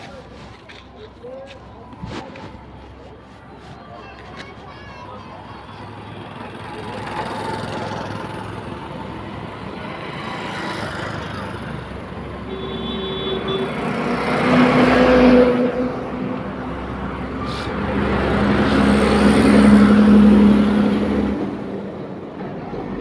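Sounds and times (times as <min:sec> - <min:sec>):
motor vehicles passing: 0:00.0 - 0:23.0.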